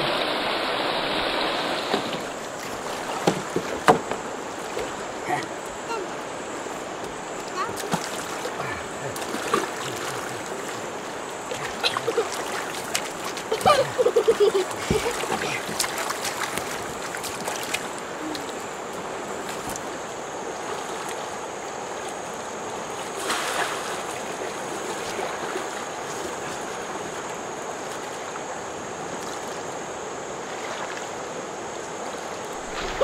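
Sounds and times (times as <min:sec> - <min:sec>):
fast-flowing river water: 0:00.0 - 0:33.0.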